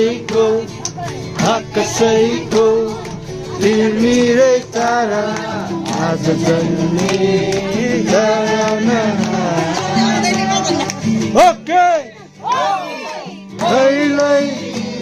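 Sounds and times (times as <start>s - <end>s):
plucked instrumental accompaniment: 0.0s - 15.0s
voices singing a carol: 0.0s - 15.0s.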